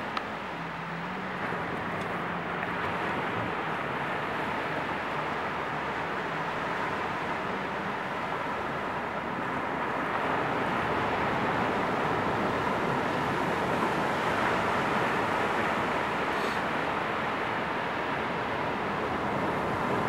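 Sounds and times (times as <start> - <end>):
waves washing onto beach: 0.0 - 20.0.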